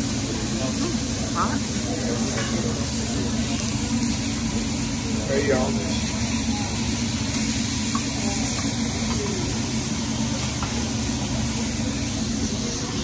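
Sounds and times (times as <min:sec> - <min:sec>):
food sizzling on a griddle: 0:00.0 - 0:13.0
steam hissing: 0:00.0 - 0:13.0.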